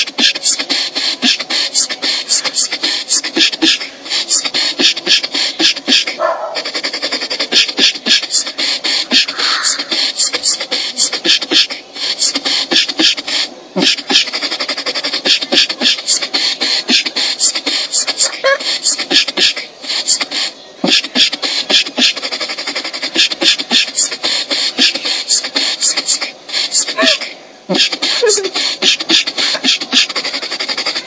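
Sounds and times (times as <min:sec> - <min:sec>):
beatboxing: 0:00.0 - 0:31.0.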